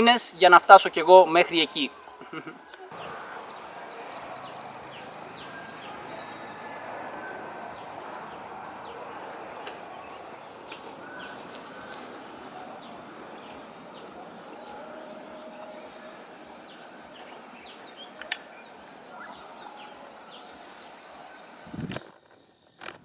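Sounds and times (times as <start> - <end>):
bird chirps: 0.0 - 21.9
background hiss: 0.0 - 22.0.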